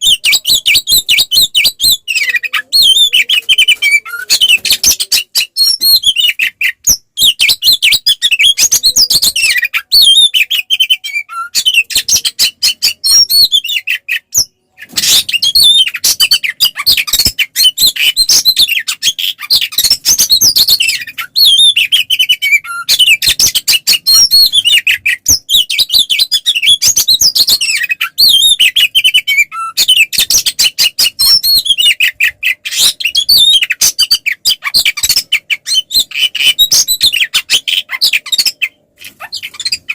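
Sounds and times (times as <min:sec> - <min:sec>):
bird whistling and chattering: 0:00.0 - 0:39.9.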